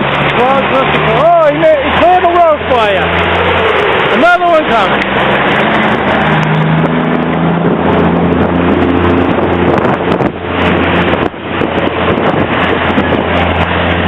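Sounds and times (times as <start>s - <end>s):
heavy rushing noise: 0.0s - 14.0s
truck engine drone: 0.0s - 14.0s.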